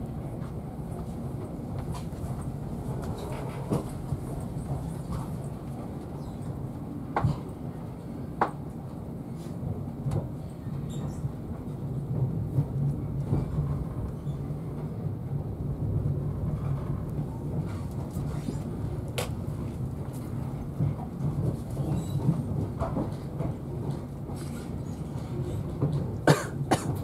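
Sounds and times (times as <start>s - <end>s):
train coach rumble: 0.0s - 27.0s.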